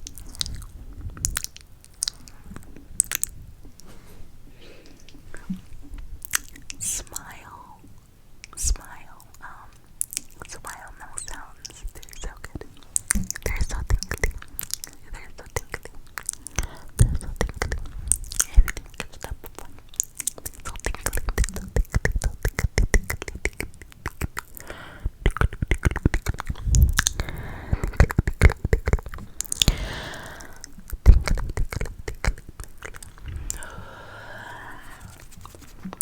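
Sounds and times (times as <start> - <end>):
wet mouth clicks and smacks: 0.0 - 3.9, 4.8 - 7.5, 8.4 - 36.0
breathy whispering: 3.8 - 7.9, 8.6 - 9.8, 10.4 - 36.0.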